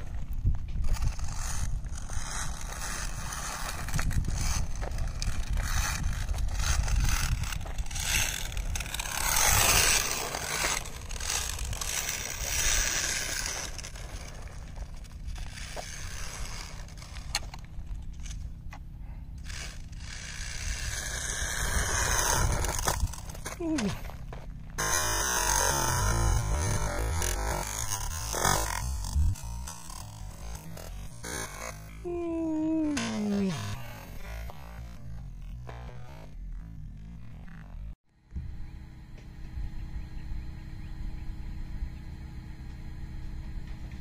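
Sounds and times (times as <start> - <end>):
tyres crunching on gravel: 0.0 - 37.2
steady low rumble: 0.0 - 44.0.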